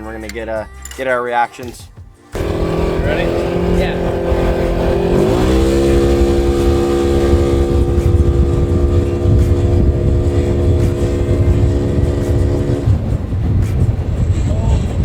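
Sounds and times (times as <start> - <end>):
engine accelerating: 2.3 - 15.0
low rumble of wind and drivetrain: 2.3 - 15.0.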